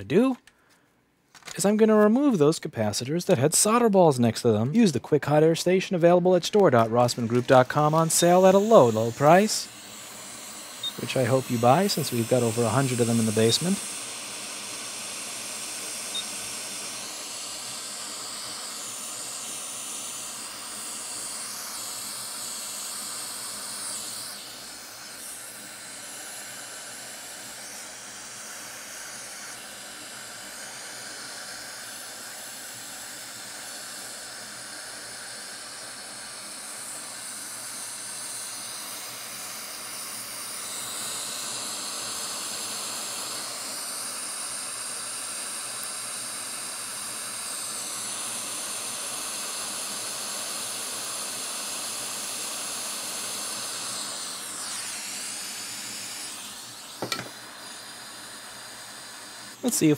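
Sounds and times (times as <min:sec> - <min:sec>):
hot air station hissing: 0:03.4 - 0:59.9.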